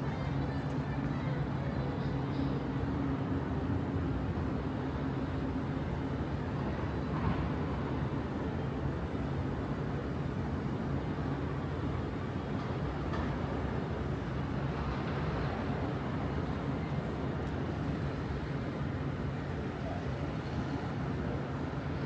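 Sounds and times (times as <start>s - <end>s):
constant rush of noise: 0.0s - 22.0s.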